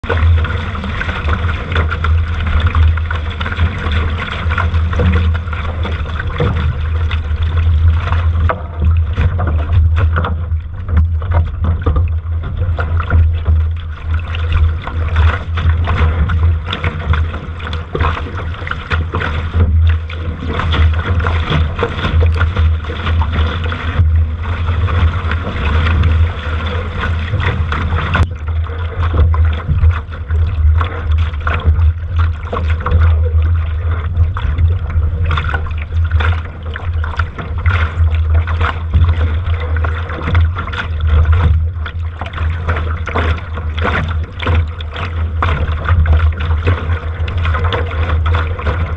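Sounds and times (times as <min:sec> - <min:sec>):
water rushing and splashing: 0:00.0 - 0:48.9.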